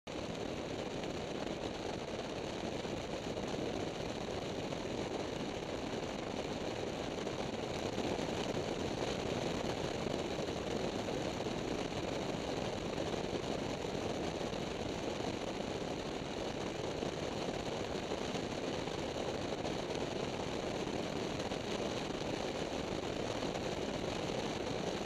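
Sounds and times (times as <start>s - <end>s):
wind and road noise: 0.1s - 25.0s.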